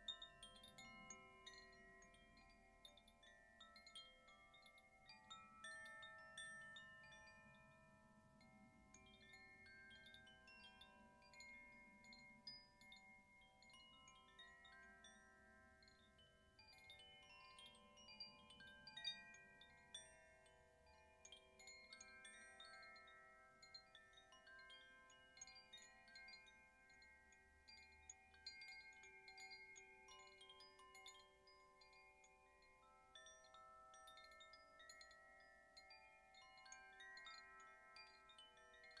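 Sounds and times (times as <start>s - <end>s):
wind chimes tinkling: 0.0s - 39.0s.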